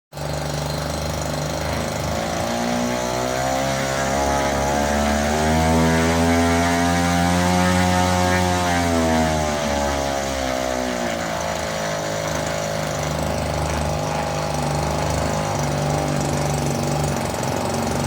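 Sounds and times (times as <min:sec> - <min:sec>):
aircraft piston engine running: 0:00.2 - 0:18.0.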